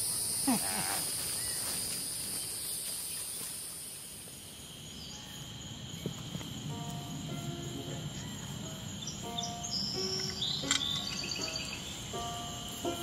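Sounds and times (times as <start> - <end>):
high-pitched insect chorus: 0.0 - 13.0
low steady insect tone: 0.0 - 13.0.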